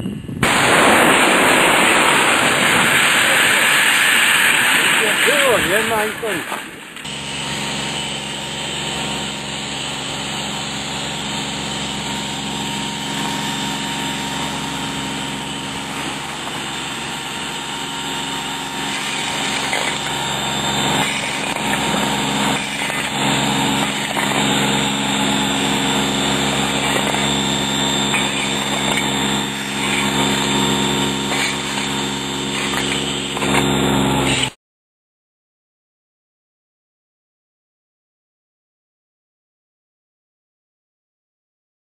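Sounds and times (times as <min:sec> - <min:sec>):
small engine running: 0:00.4 - 0:34.6.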